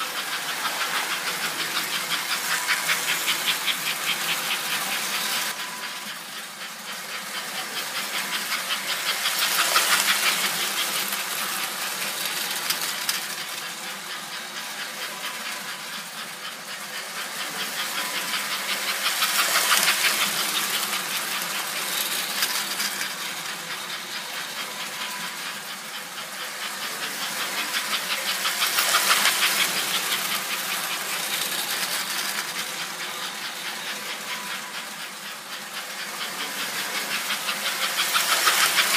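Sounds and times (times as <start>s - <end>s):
toy train rattling on rails: 0.0s - 38.9s.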